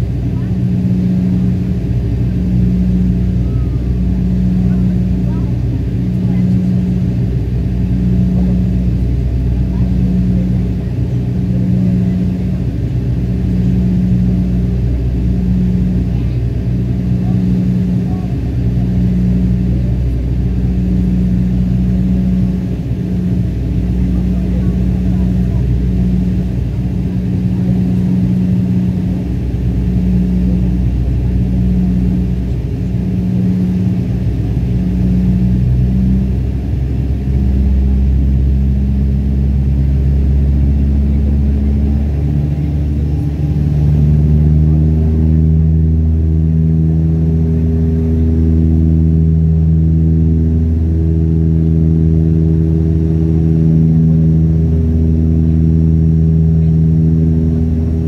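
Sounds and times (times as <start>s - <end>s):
propeller plane cabin drone: 0.0s - 58.0s.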